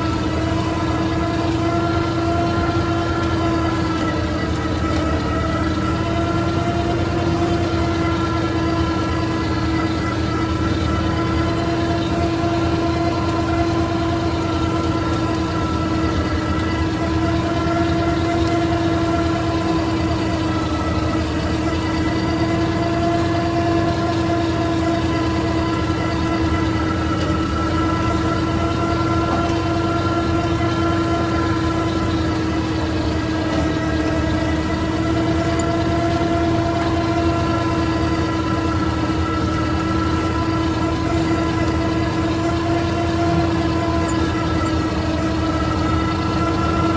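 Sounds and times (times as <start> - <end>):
droning whine: 0.0 - 46.9
tractor diesel engine under load: 0.0 - 46.9.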